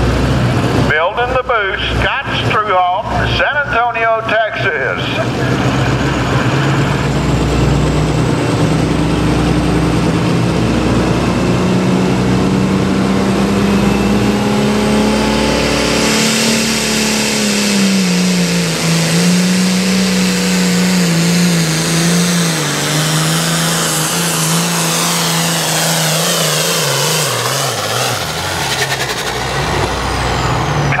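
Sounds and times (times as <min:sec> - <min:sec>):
diesel tractor engine at full power: 0:00.0 - 0:31.0
high turbo whine: 0:00.0 - 0:31.0.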